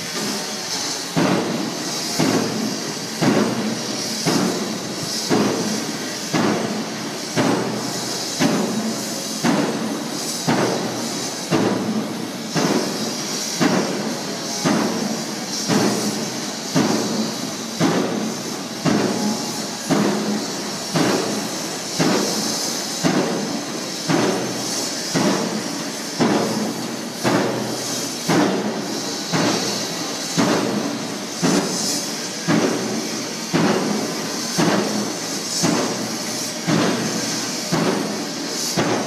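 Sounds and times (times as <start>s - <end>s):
hiss: 0.0s - 39.0s.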